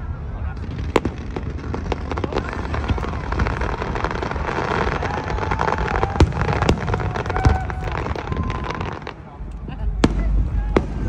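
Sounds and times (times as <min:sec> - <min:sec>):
fireworks crackling: 0:00.0 - 0:11.0
fireworks booms: 0:00.4 - 0:11.0.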